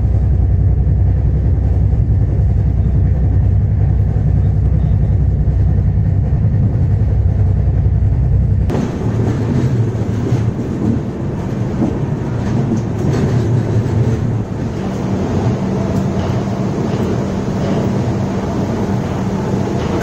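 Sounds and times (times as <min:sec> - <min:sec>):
train rumble with rail clatter: 0:00.0 - 0:20.0.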